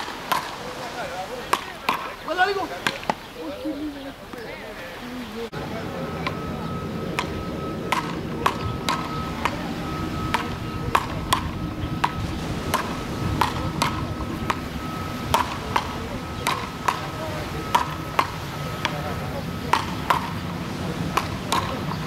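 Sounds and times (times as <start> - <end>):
wooden paddles hitting ball: 0.0 - 3.3, 7.1 - 22.0.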